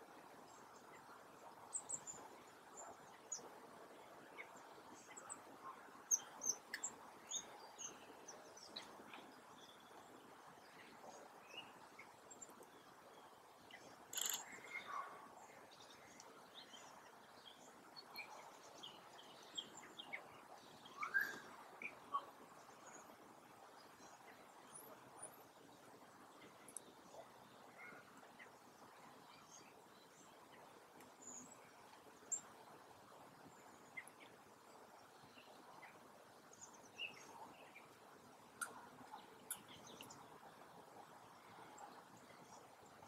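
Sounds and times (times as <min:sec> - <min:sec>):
faint background hiss: 0:00.0 - 0:43.0
songbirds chirping: 0:00.0 - 0:43.0.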